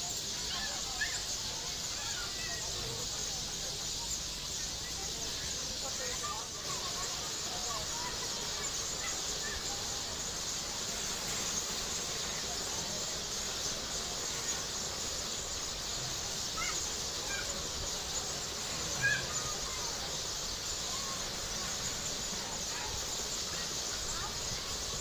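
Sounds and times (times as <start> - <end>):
faint bird chirps: 0.0 - 25.0
high outdoor hiss: 0.0 - 25.0.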